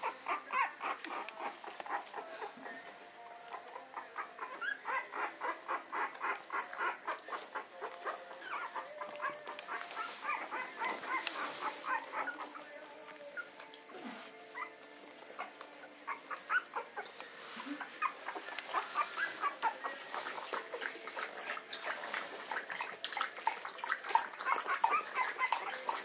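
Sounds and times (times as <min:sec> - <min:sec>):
puppies squeaking and whimpering: 0:00.0 - 0:26.0.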